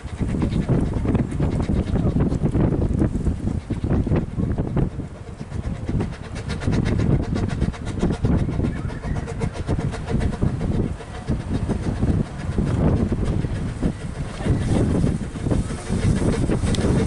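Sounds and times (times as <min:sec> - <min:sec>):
steam locomotive chuffing: 0:00.0 - 0:17.0
train low rumble: 0:00.0 - 0:17.0.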